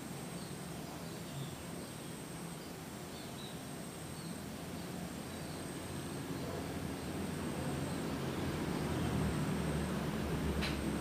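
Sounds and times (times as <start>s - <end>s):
faint bird chirps: 0.0s - 9.2s
low hum and hiss: 0.0s - 11.0s.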